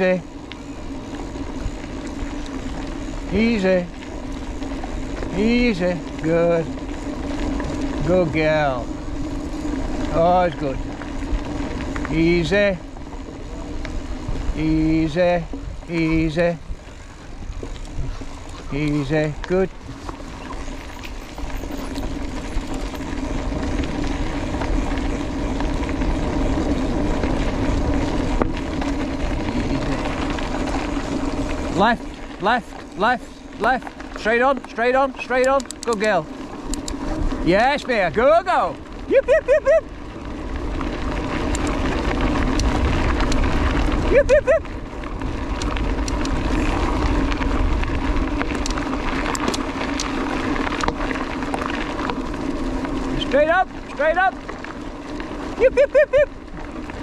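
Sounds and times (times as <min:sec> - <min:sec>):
bike tyres on gravel: 0:00.0 - 0:57.0
grit ticking: 0:00.0 - 0:57.0
wind rumble on microphone: 0:00.0 - 0:57.0.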